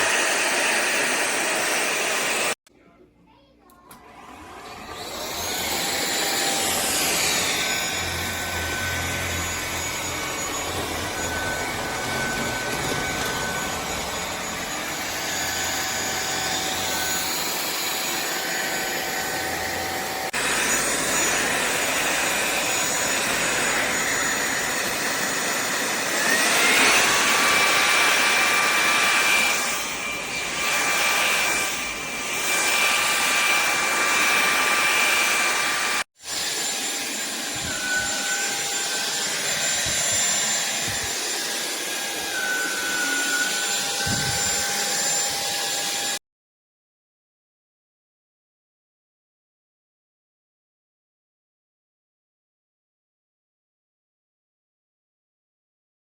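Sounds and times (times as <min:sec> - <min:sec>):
vacuum cleaner motor whine: 0:00.0 - 0:02.6, 0:04.0 - 0:46.2.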